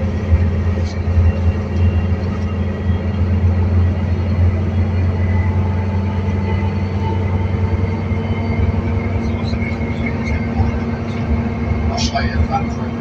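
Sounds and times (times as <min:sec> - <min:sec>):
bus engine drone: 0:00.0 - 0:13.0
faint whining tones: 0:00.0 - 0:13.0.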